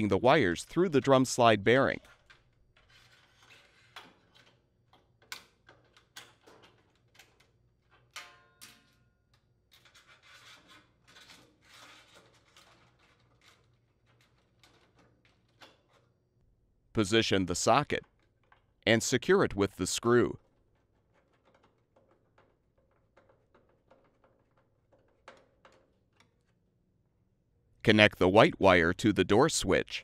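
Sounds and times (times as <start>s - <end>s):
wires and plastic scraping: 0.6s - 8.2s, 9.3s - 16.3s, 17.0s - 26.8s.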